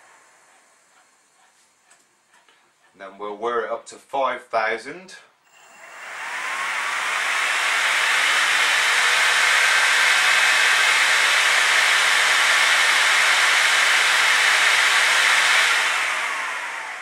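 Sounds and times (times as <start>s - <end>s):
heater fan rushing whir: 0.0s - 3.0s, 5.5s - 17.0s.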